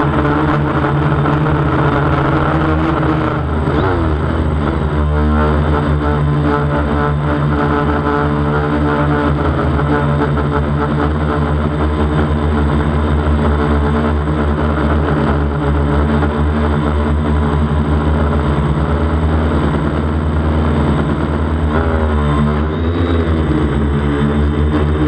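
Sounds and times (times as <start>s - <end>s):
drone motors and propellers droning: 0.0s - 25.0s.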